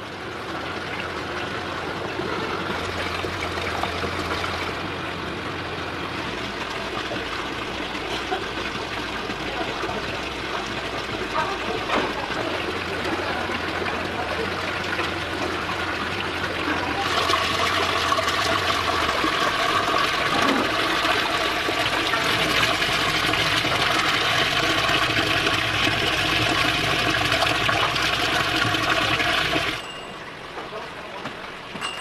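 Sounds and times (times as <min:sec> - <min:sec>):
water running and splashing: 0:00.2 - 0:29.9.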